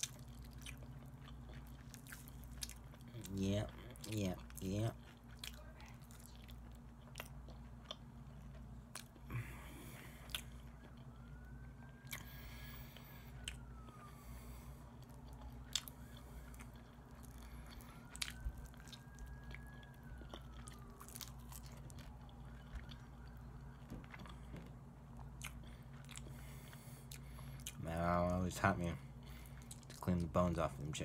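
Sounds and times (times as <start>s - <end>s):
distant siren wailing: 0.0s - 31.0s
low hum: 0.0s - 31.0s
man chewing with wet smacks: 0.0s - 31.0s.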